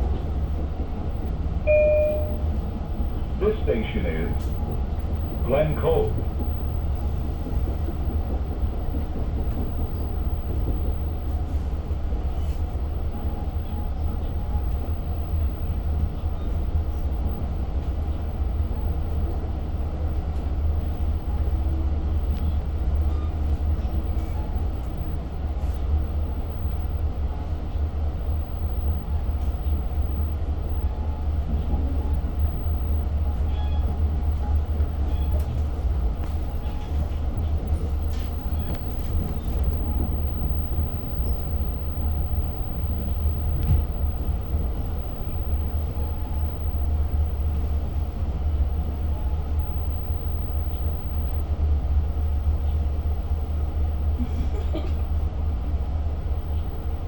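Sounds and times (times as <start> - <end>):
diesel train rumble inside coach: 0.0 - 57.0.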